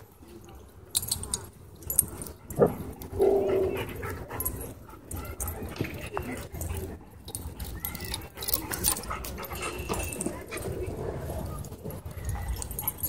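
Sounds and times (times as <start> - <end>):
dogs playing: 0.9 - 13.0.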